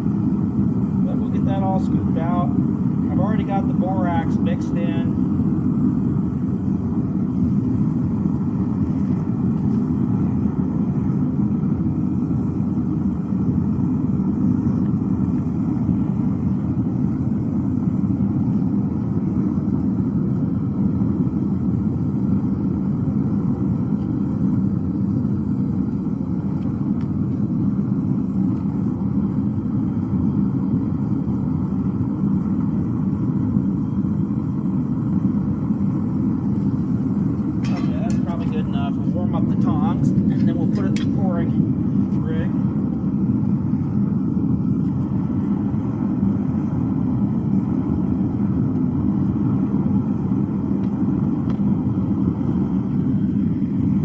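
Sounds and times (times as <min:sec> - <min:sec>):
gas burner rumbling rush: 0:00.0 - 0:54.0.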